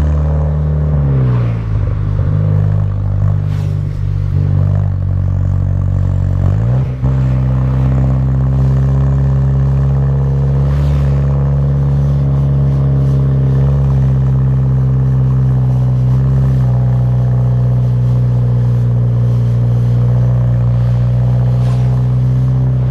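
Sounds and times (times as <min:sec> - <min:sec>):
car exhaust low drone: 0:00.0 - 0:22.9.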